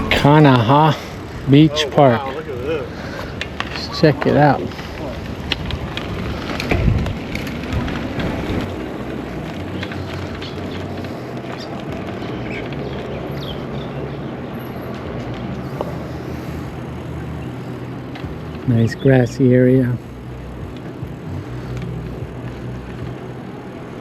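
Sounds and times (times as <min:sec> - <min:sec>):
bike tyres rolling: 0:00.0 - 0:24.0.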